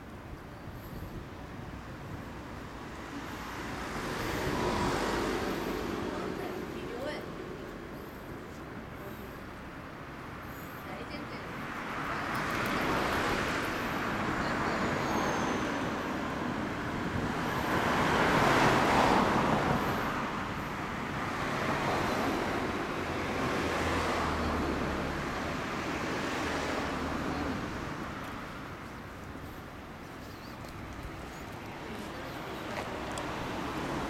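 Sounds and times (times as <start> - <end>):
motor vehicle noise: 0.0 - 34.0.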